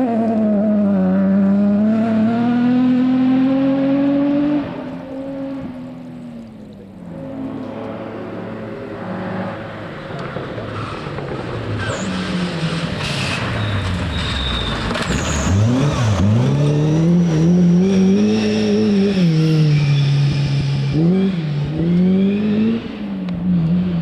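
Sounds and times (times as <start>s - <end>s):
rally car engine revving: 0.0s - 5.8s, 7.0s - 24.0s.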